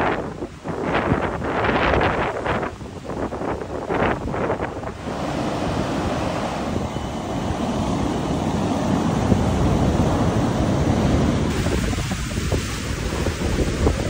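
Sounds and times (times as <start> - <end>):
ocean surf washing ashore: 0.0 - 14.0
wind buffeting microphone: 0.0 - 14.0.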